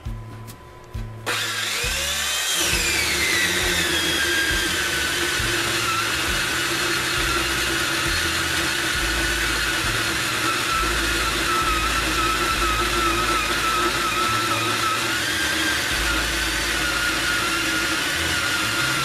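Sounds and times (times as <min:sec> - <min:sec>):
saw cutting through log: 0:01.3 - 0:19.0.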